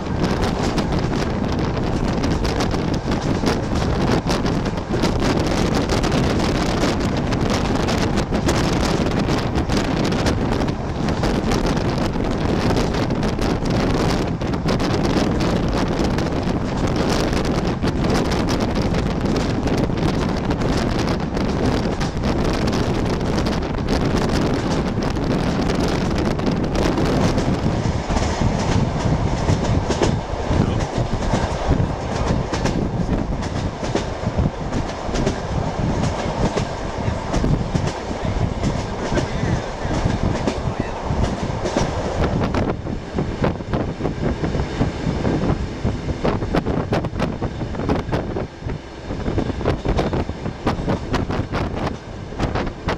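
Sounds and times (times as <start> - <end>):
train carriage rumble and rattle: 0.0 - 52.9.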